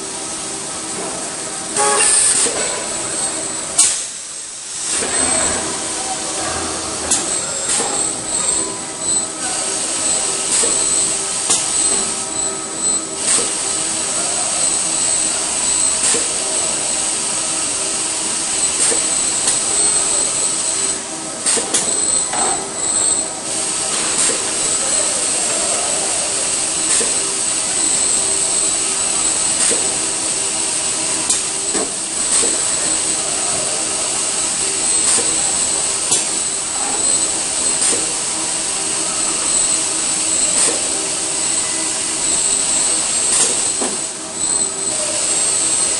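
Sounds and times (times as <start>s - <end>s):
machinery hums: 0.0s - 45.9s
steady high hiss: 0.0s - 45.9s.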